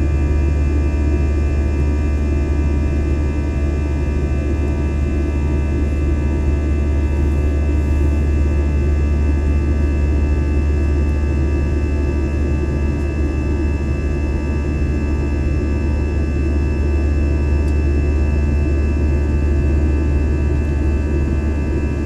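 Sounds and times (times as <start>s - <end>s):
airliner cabin drone: 0.0s - 22.0s.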